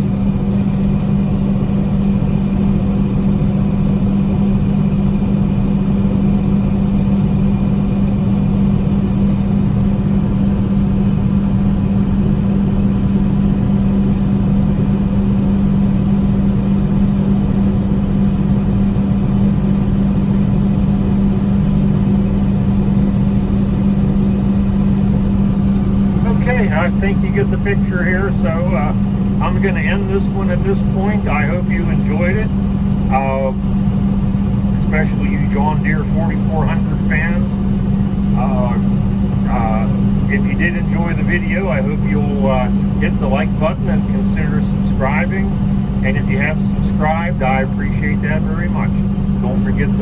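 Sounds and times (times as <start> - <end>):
combine harvester engine droning: 0.0 - 50.0.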